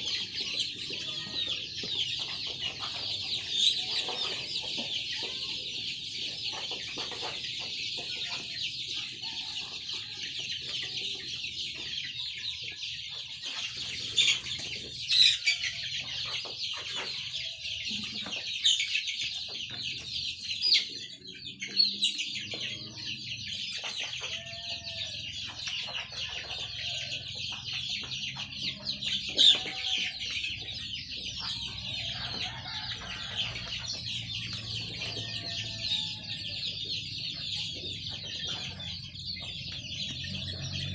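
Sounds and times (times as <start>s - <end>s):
chickens cheeping and clucking: 0.0s - 40.9s.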